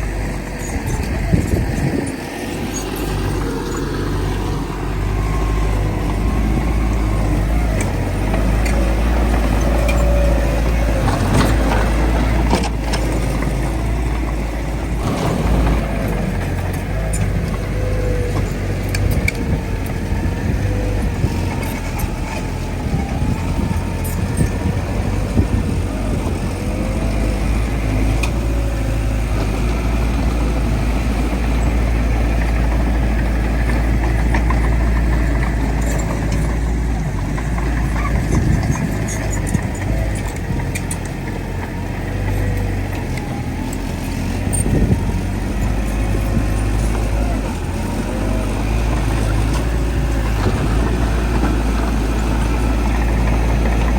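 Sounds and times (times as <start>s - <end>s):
bulldozer diesel engine droning: 0.0s - 53.9s.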